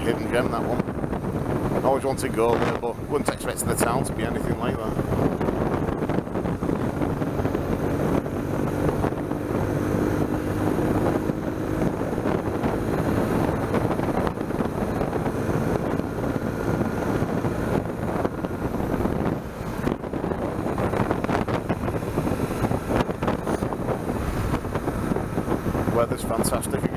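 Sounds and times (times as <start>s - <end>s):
motorcycle engine cruising: 0.0s - 26.9s
wind rushing over microphone: 0.0s - 26.9s.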